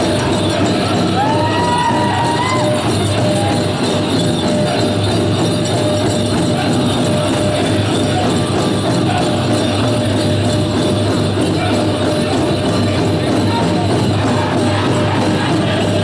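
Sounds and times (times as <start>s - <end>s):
drum group playing big drum: 0.0s - 16.0s
leg bells jingling: 0.0s - 16.0s.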